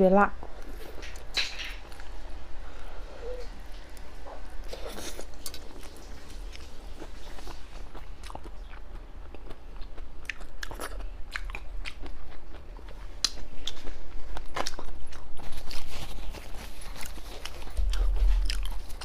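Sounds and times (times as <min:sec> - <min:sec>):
person chewing food: 0:03.2 - 0:19.0.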